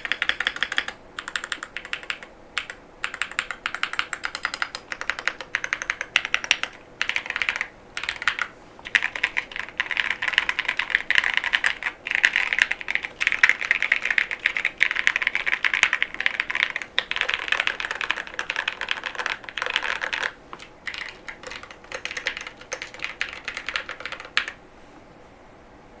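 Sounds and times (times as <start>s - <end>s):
fast mechanical keyboard typing: 0.0s - 24.6s.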